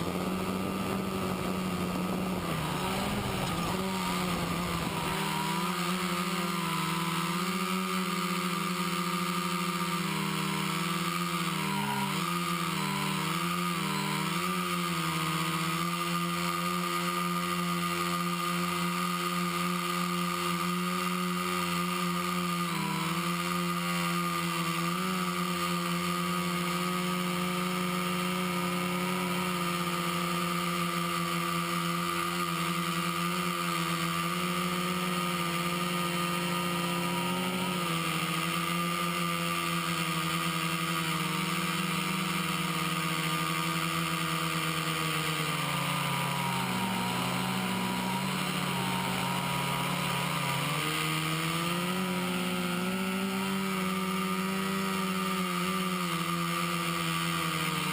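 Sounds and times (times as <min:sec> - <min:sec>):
drone motors humming: 0:00.0 - 0:57.9.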